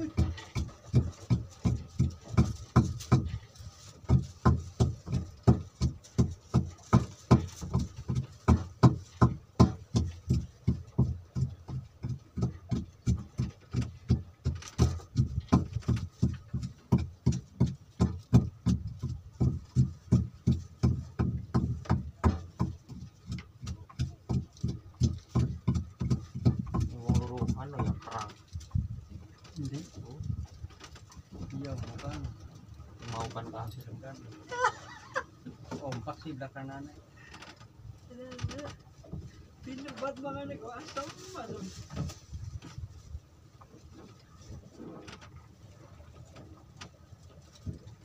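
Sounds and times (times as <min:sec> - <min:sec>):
boat engine thumping: 0:00.0 - 0:48.0.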